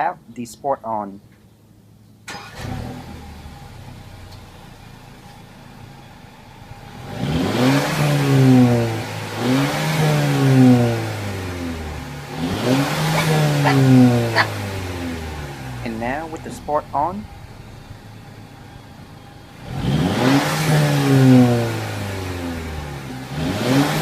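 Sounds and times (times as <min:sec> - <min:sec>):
car engine idling and revving: 0:01.4 - 0:24.0.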